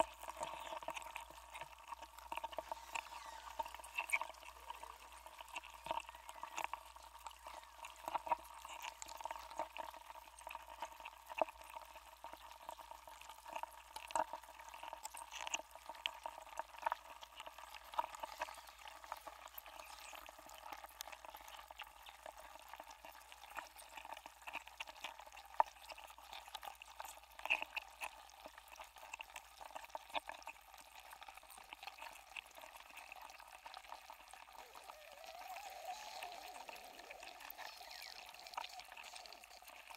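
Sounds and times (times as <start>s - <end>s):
melting ice clicking and popping: 0.0s - 39.9s.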